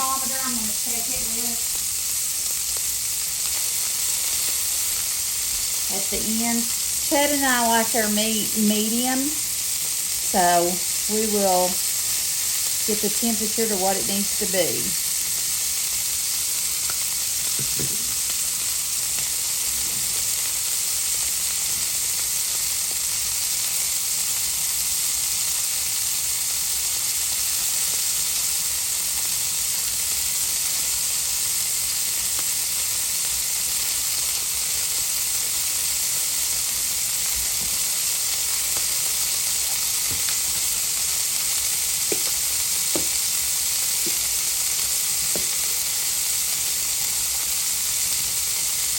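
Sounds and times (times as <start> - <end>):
steaks sizzling in a skillet: 0.0 - 48.9.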